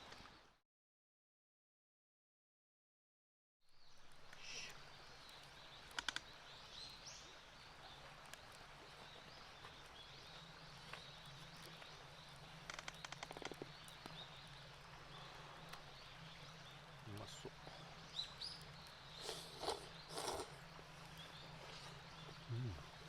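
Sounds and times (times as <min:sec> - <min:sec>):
small birds chirping: 0:03.7 - 0:23.0.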